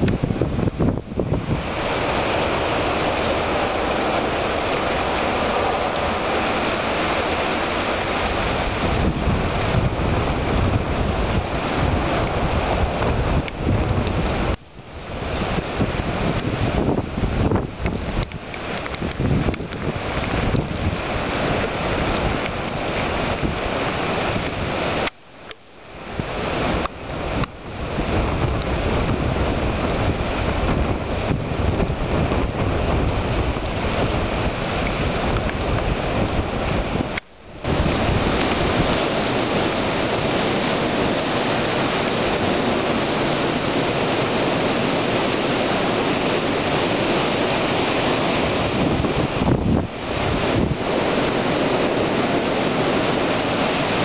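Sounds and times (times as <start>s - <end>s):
gusty wind buffeting microphone: 0.0s - 25.2s, 25.8s - 54.0s.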